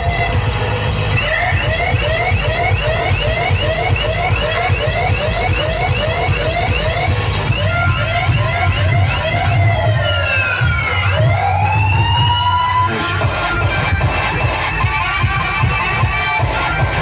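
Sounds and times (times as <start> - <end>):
heavy bass: 0.0 - 17.0
rising siren whoop effect: 1.1 - 17.0.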